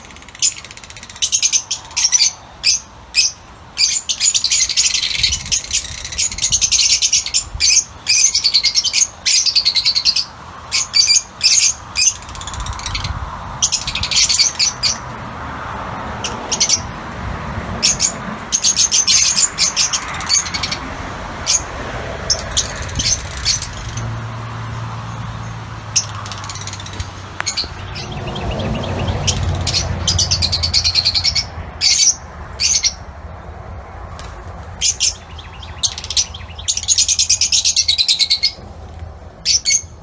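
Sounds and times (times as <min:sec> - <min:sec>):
lovebirds chirping: 0:00.0 - 0:17.0, 0:17.7 - 0:33.0, 0:34.8 - 0:38.6.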